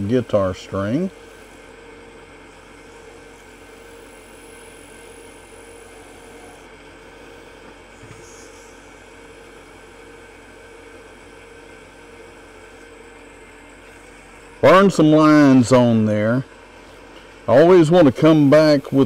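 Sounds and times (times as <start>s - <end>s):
wood lathe humming: 0.0s - 19.0s.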